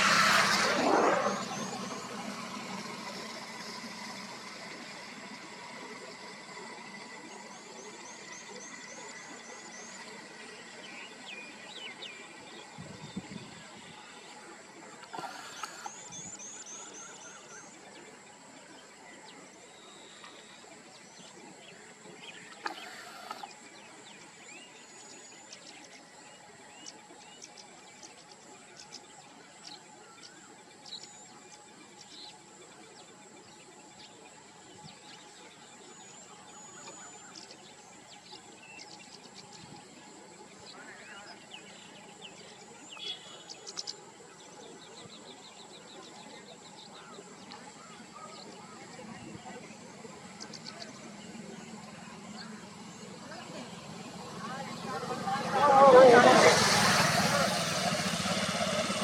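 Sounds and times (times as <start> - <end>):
birds chirping and trilling: 0.0 - 59.0
insects droning: 0.0 - 59.0.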